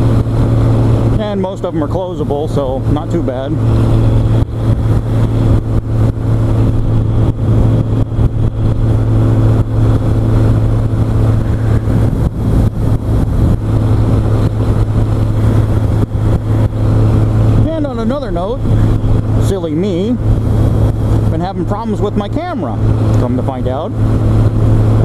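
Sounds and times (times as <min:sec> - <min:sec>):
motorcycle engine cruising: 0:00.0 - 0:25.0
wind buffeting microphone: 0:00.0 - 0:25.0.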